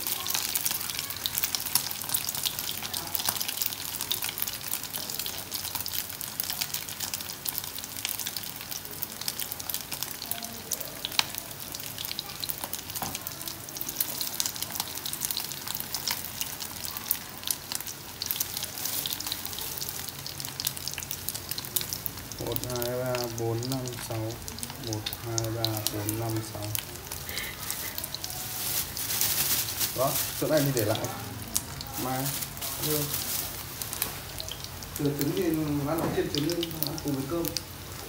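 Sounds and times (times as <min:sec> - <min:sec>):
patties sizzling in hot oil: 0:00.0 - 0:38.0.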